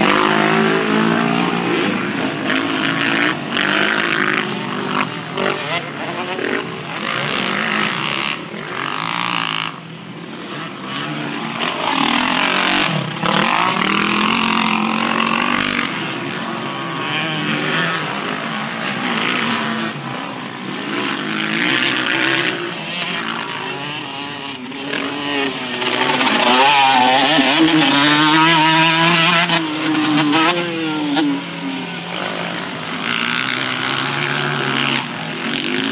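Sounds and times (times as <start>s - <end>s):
dirt bikes revving: 0.0s - 35.9s.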